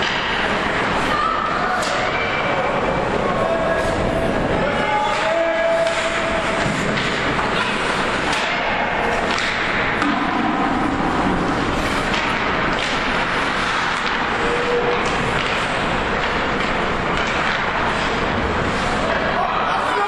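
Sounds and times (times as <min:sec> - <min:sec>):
hockey sticks knocking puck: 0:00.0 - 0:01.0, 0:04.7 - 0:20.0
arena noise: 0:00.0 - 0:20.0
skates on ice: 0:00.0 - 0:20.0.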